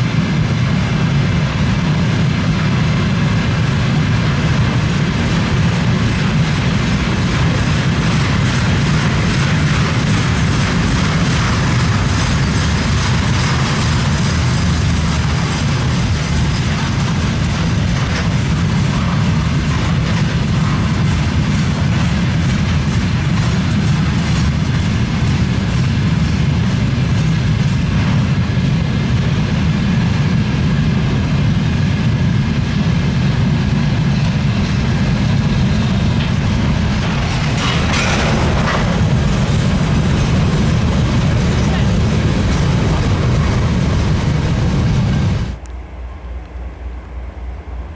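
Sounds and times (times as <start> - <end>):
freight train wagons rumbling: 0.0 - 47.9
wheels clicking over rail joints: 6.0 - 45.0.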